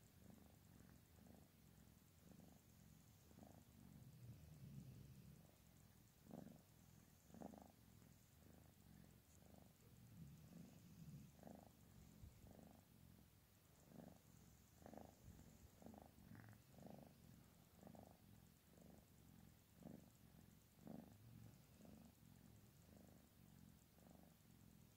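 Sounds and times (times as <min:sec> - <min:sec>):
cat purring: 0:00.0 - 0:24.9.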